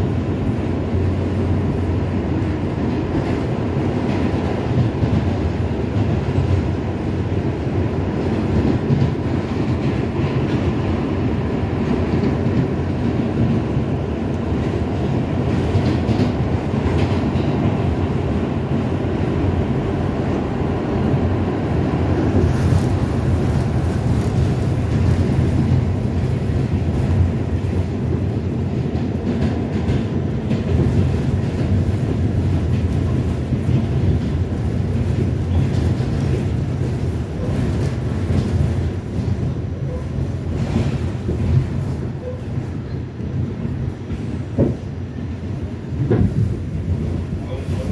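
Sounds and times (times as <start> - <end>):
subway wheels rumbling on rails: 0.0 - 47.9.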